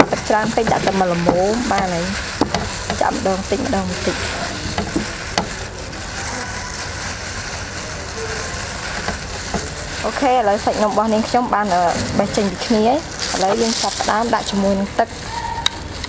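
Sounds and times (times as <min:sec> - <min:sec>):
hands squeezing wet noodles: 0:00.0 - 0:16.0.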